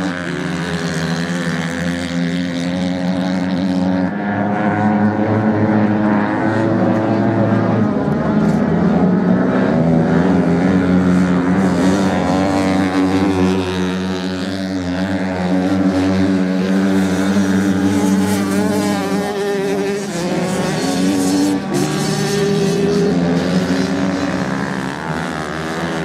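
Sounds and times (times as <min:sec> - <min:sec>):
off-road motorcycle engines: 0:00.0 - 0:26.0.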